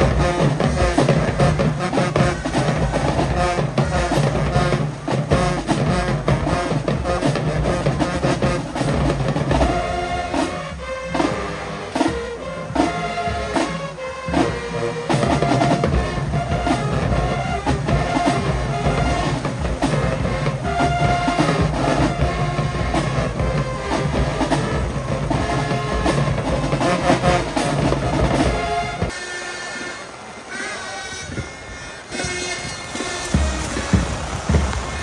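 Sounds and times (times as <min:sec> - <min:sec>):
marching band playing: 0:00.0 - 0:35.0.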